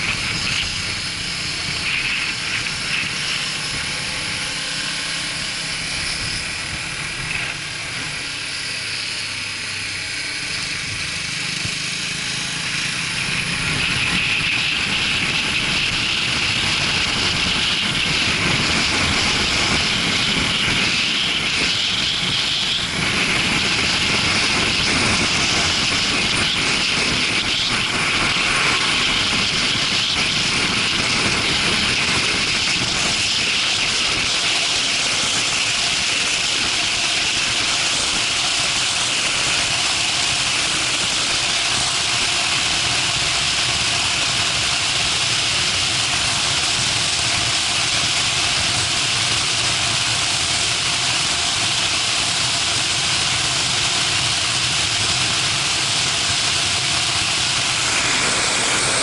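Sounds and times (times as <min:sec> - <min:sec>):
wind rush over microphone: 0:00.0 - 0:04.9, 0:12.9 - 0:59.0
motorcycle engine drone: 0:00.0 - 0:59.0.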